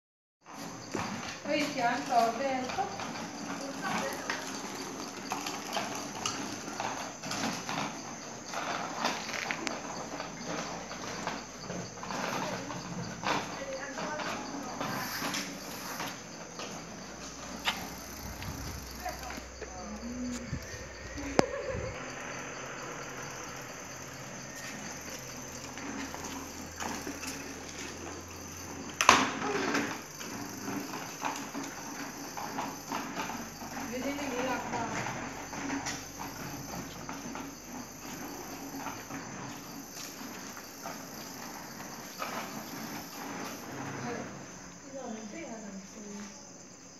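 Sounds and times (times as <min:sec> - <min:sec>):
bicycle rattling over concrete: 0:00.4 - 0:46.9.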